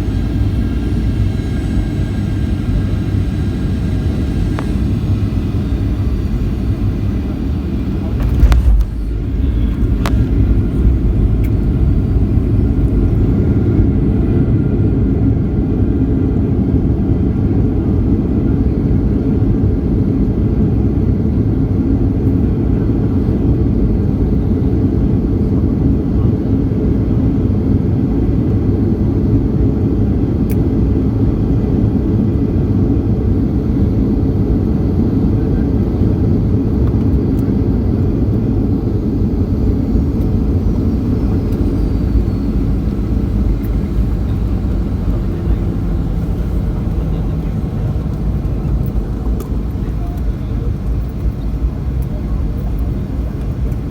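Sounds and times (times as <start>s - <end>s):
jet engine cabin rumble: 0.0s - 53.9s.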